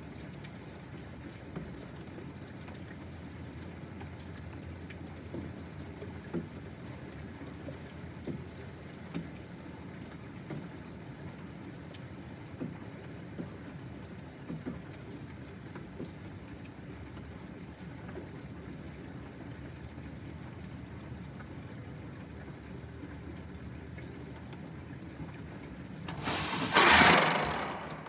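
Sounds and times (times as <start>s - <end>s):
water drip ticks: 0.0s - 26.1s
steady rain falling: 0.0s - 28.0s.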